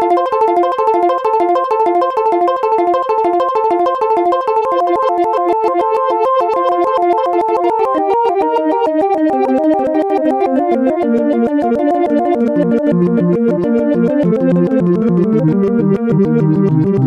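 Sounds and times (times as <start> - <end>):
synthesizer arpeggio: 0.0 - 17.0.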